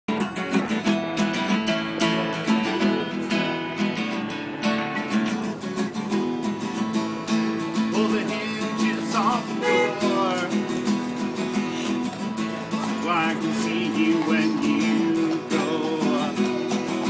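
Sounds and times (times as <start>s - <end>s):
acoustic guitar strumming: 0.1s - 17.0s.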